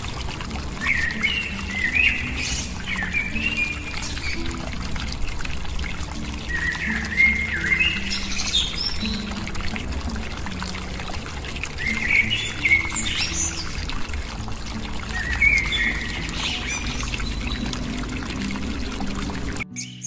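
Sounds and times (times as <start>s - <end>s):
water pouring into pond: 0.0s - 19.7s
bird song chirping: 0.6s - 20.0s.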